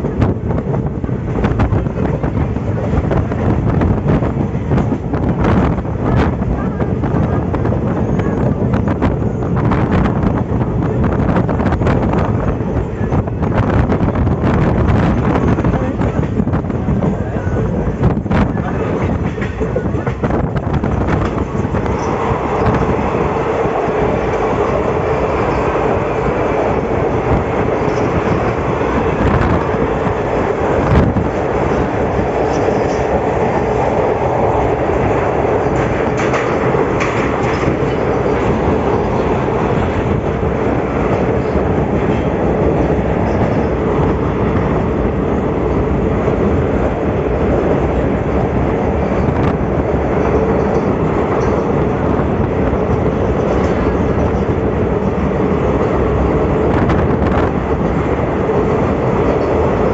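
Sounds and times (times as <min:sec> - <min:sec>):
constant drone: 0:00.0 - 0:59.9
train wheels rumbling and rattling: 0:00.0 - 0:59.9.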